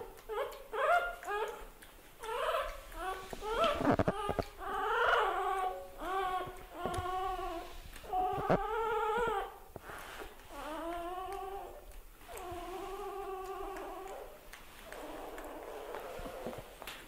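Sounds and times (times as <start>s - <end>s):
puppy whining: 0.0s - 17.0s.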